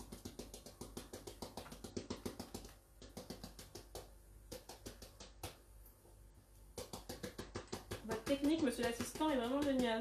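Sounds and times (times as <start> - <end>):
plastic shaker tapping: 0.0 - 5.7, 6.7 - 10.0.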